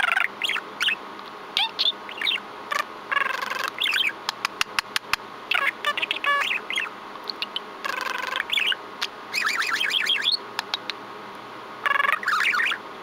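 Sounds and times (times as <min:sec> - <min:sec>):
budgerigar chattering: 0:00.0 - 0:01.0, 0:01.6 - 0:04.8, 0:05.5 - 0:11.0, 0:11.8 - 0:12.8.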